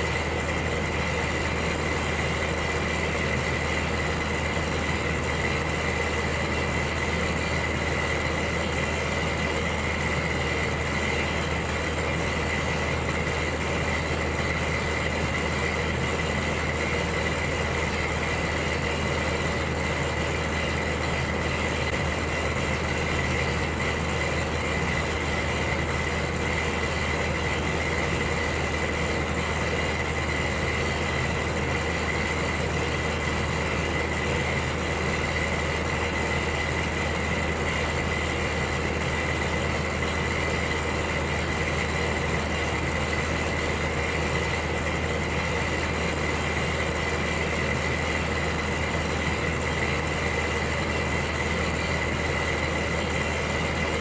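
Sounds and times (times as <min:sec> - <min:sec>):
electric heater humming: 0:00.0 - 0:54.0.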